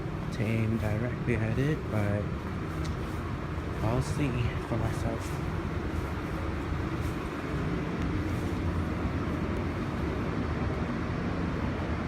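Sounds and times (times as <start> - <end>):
subway station rumble: 0.0 - 12.0.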